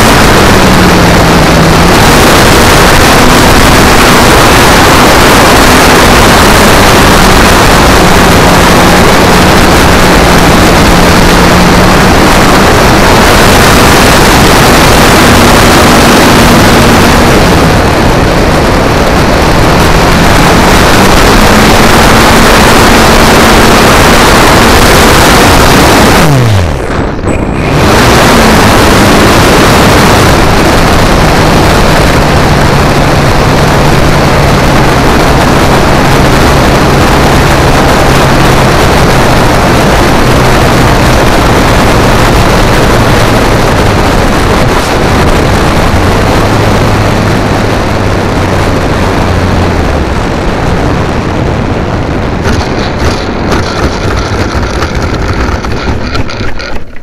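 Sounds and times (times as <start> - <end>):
propeller motor drone: 0.0 - 57.0
wind rushing over microphone: 0.0 - 57.0.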